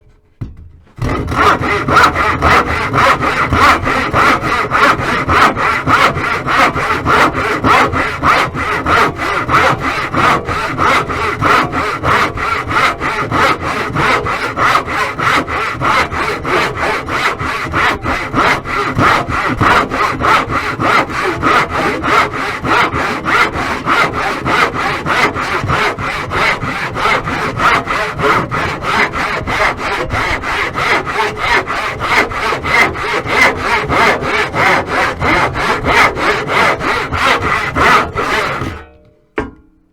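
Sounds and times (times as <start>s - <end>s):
hacksaw cutting: 1.0s - 39.0s.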